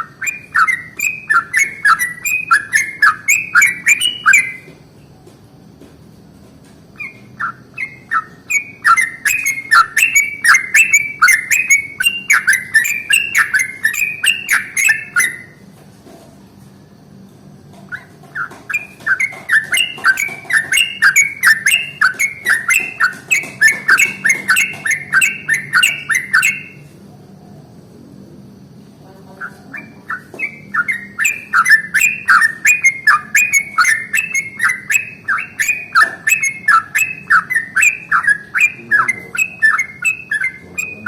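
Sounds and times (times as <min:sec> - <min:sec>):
bulbul singing rolling song: 0:00.0 - 0:06.2, 0:06.8 - 0:15.7, 0:16.7 - 0:41.0.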